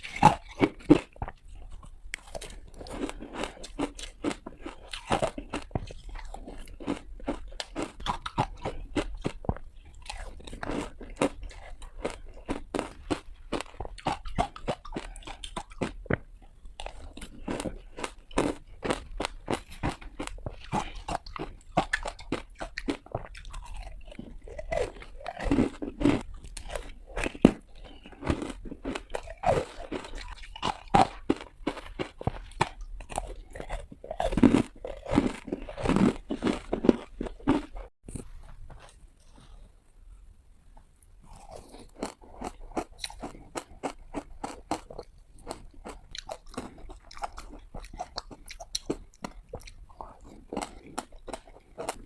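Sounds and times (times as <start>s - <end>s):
person chewing ice: 0.0s - 38.3s, 41.2s - 52.0s.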